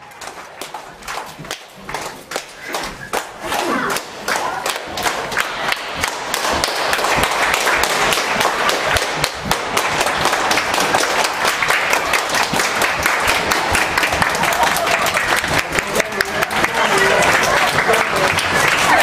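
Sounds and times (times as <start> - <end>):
crowd voices: 0.0 - 19.0
people clapping: 0.0 - 19.0.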